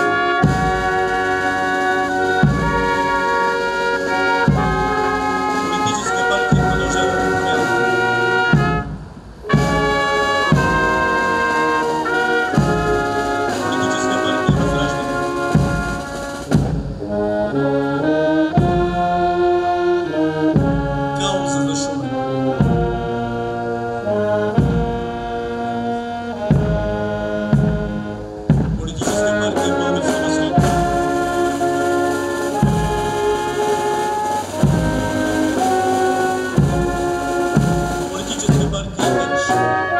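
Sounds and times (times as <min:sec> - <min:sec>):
brass band playing chords: 0:00.0 - 0:39.9.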